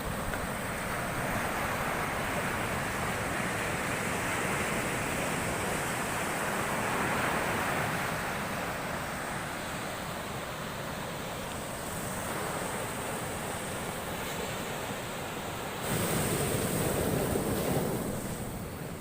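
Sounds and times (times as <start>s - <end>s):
big waves breaking on shore: 0.0s - 19.0s.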